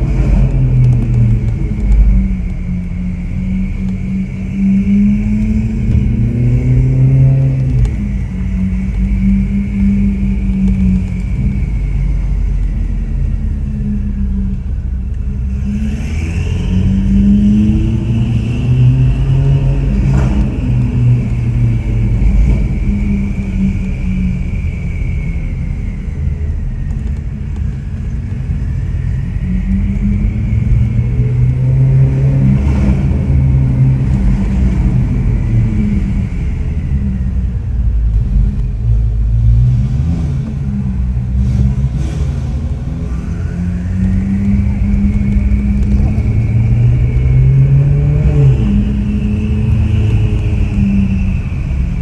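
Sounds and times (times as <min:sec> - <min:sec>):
sports car engine drone: 0:00.0 - 0:52.0.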